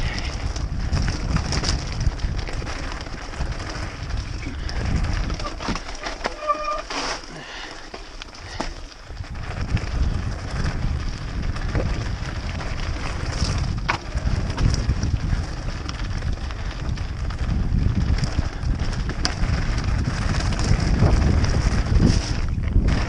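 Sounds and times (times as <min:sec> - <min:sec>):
wind buffeting microphone: 0:00.0 - 0:06.4, 0:07.9 - 0:23.0
bike clicks and rattles: 0:00.0 - 0:23.0
tyre and trail noise: 0:00.0 - 0:23.0.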